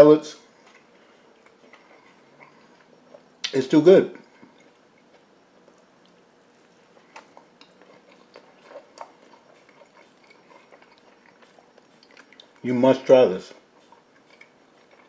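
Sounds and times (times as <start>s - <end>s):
person chewing: 0.5s - 3.5s, 4.2s - 12.7s, 13.5s - 15.0s.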